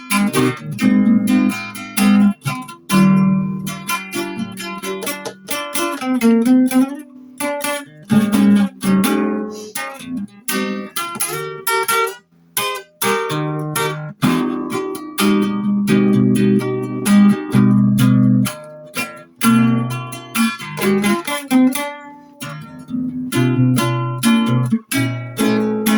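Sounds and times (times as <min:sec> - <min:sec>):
acoustic guitar playing: 0:00.0 - 0:25.9.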